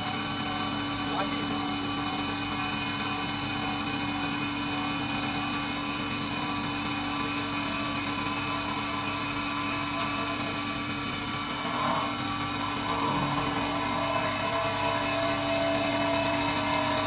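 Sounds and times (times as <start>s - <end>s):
steady whining tones: 0.0s - 17.0s
wood lathe machine drone: 0.0s - 17.0s.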